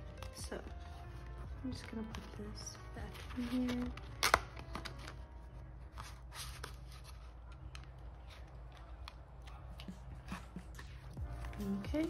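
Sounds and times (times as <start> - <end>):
plastic envelopes and paper rustling: 0.0 - 10.1.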